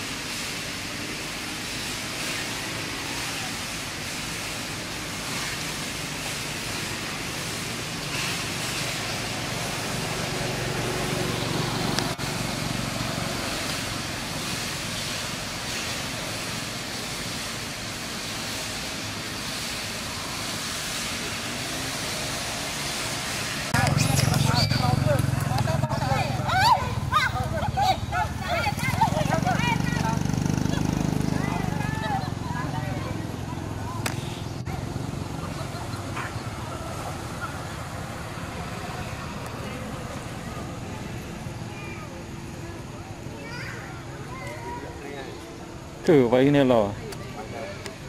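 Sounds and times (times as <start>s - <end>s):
motorbikes passing on road: 0.0s - 48.0s
outdoor hiss: 0.0s - 48.0s.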